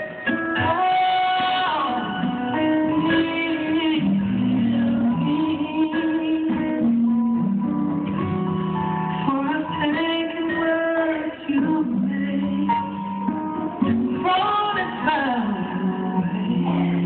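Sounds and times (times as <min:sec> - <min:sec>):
muffled gospel music: 0:00.0 - 0:17.0.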